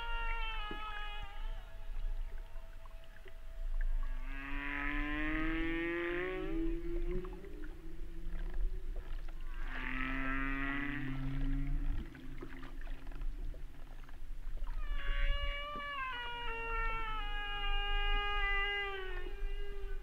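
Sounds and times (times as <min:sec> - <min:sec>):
low steady rumble: 0:00.0 - 0:20.0
whale calls: 0:00.0 - 0:20.0.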